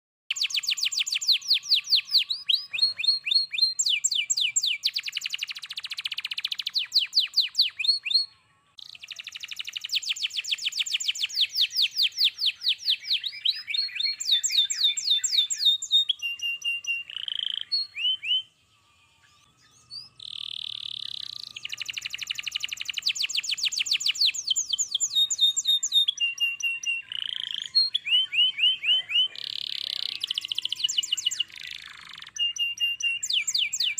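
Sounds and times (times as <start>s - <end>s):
canary singing trills: 0.3s - 33.9s.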